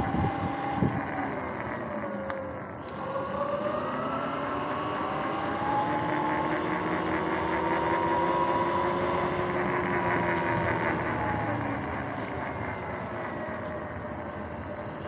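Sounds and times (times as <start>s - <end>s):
electric motor and chain whining: 0.0s - 15.0s.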